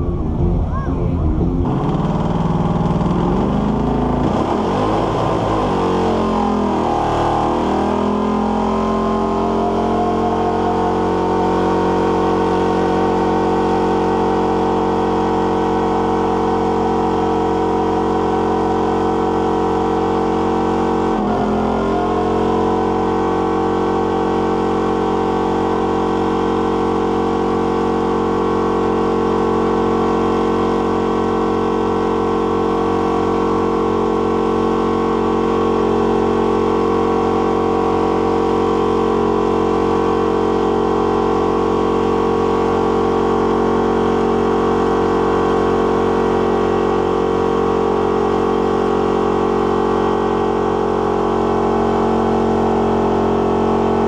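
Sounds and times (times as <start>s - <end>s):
car engine revving high: 0.0s - 54.0s.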